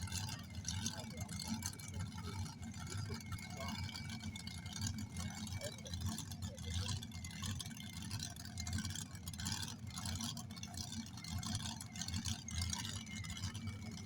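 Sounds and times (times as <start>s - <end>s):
outdoor noise: 0.0s - 14.0s
vehicle engine rumbling: 0.0s - 14.0s.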